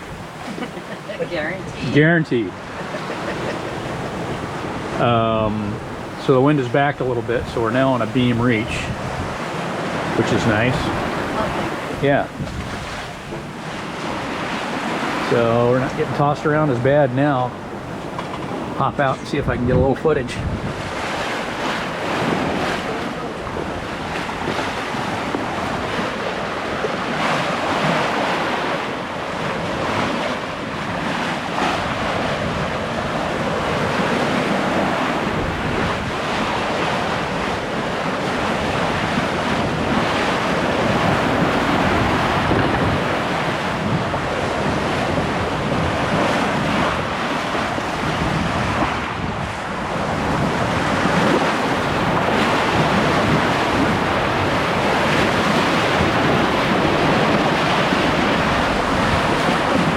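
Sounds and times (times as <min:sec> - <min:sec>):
water rushing along a hull: 0:00.0 - 0:59.9
wind buffeting microphone: 0:00.0 - 0:59.9.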